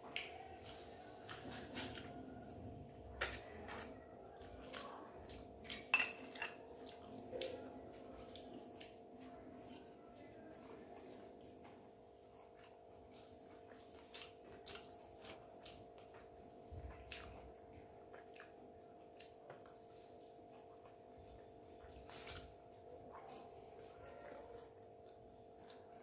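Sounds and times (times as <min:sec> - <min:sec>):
wet chewing and mouth clicks: 0:00.0 - 0:26.0.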